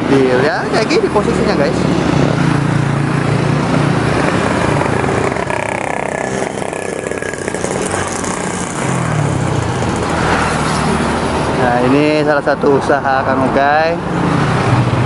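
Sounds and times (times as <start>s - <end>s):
cars passing: 0.0s - 15.0s
motorcycles passing: 0.0s - 15.0s.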